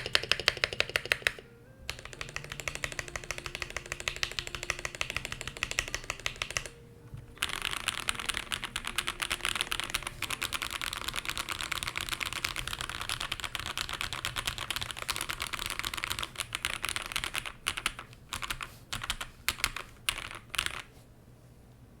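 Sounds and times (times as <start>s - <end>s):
mechanical keyboard typing: 0.0s - 20.9s.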